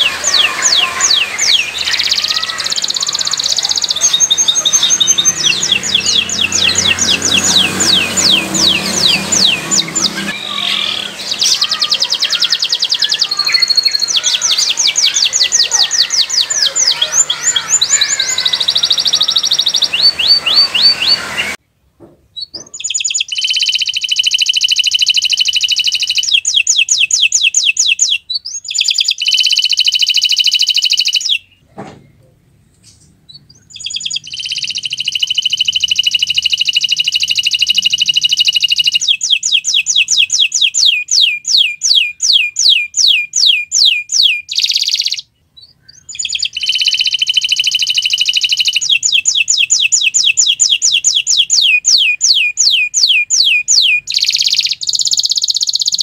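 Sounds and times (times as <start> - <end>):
canary singing: 0.0 - 21.6, 22.3 - 31.6, 32.8 - 56.0.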